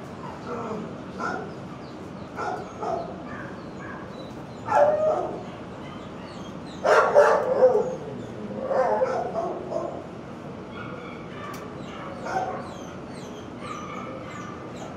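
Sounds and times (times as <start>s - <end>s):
dogs barking: 0.2s - 14.9s
dogs yipping: 1.2s - 10.1s, 10.7s - 14.9s.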